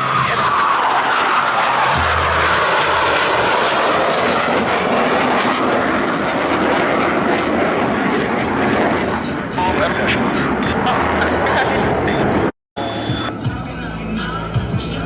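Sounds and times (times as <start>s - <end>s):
jet engines passing: 0.0s - 15.0s.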